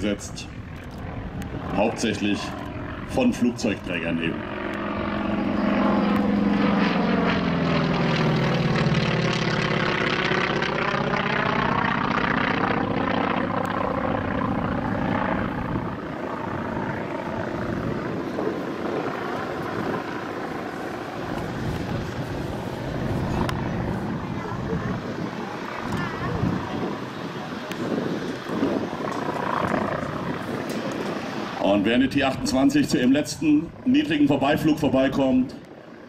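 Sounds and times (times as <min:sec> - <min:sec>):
radial aircraft engine and propeller: 0:00.0 - 0:36.0.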